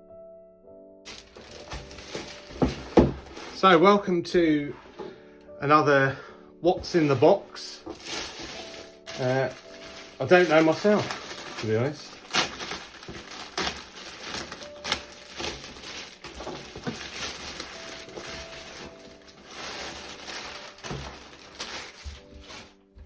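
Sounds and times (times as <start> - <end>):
faint background music: 0.0 - 23.0
cardboard packaging rustling: 1.1 - 4.1, 4.7 - 5.2, 6.7 - 23.0.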